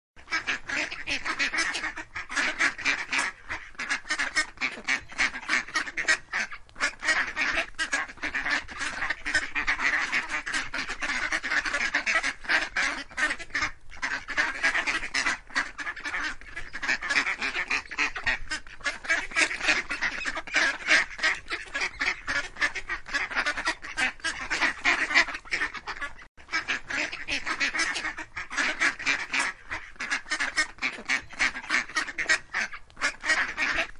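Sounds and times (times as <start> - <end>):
flock of ducks quacking: 0.2 - 33.9.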